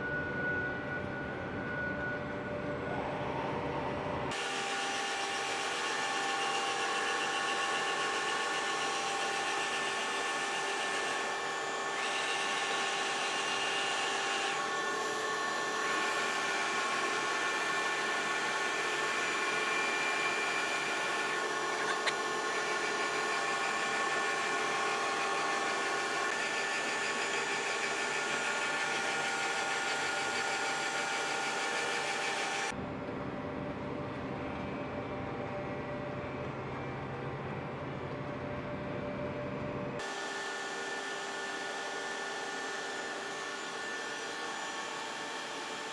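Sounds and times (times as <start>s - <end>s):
machine whine with held tones: 0.0s - 45.9s.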